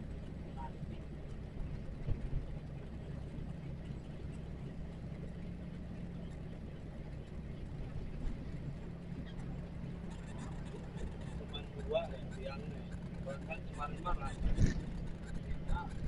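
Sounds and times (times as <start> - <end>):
road noise: 0.0 - 16.0
truck diesel engine droning: 0.0 - 16.0.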